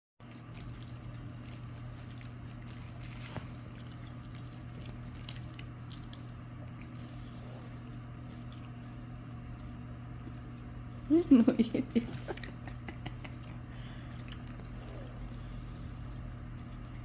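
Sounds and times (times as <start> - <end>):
snack being chewed: 0.2 - 11.0, 12.0 - 17.0
steady low hum: 0.2 - 17.0.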